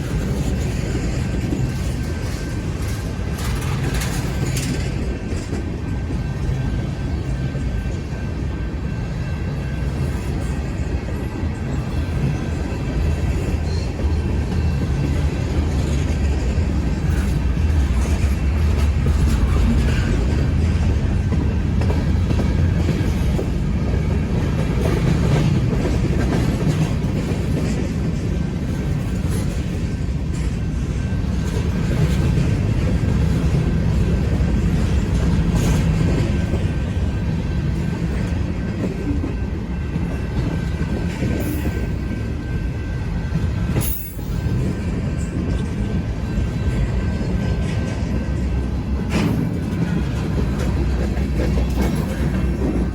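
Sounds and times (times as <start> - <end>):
freight train rolling past: 0.0 - 52.9.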